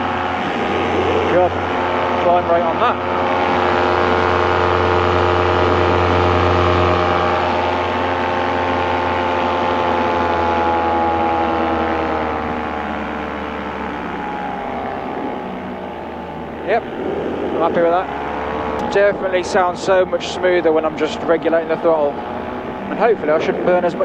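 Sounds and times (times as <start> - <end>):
paramotor engine running: 0.0 - 24.0.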